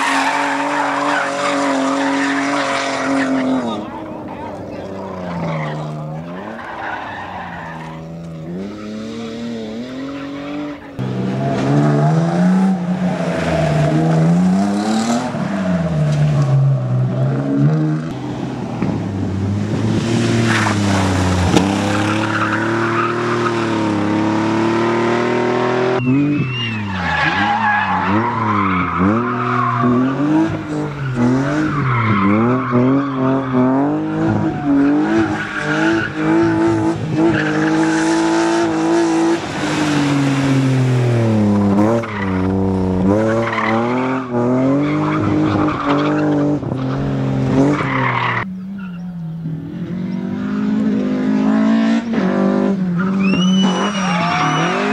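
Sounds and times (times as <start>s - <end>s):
tyres squealing and skidding: 0.0s - 17.3s, 20.3s - 49.3s, 52.0s - 54.9s
rally car engines revving: 0.0s - 54.9s.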